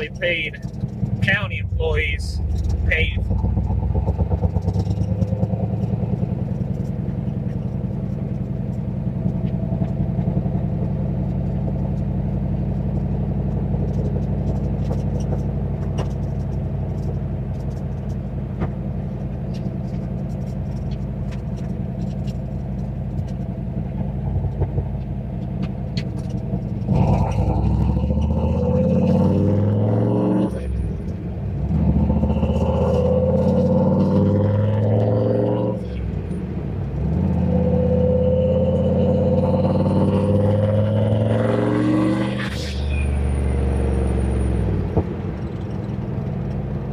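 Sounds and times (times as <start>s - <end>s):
car engine exhaust drone: 0.0s - 46.9s.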